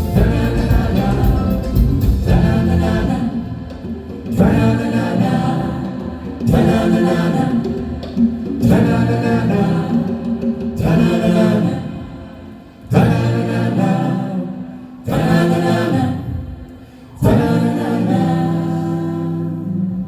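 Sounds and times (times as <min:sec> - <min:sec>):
voices singing held chords: 0:00.0 - 0:20.0.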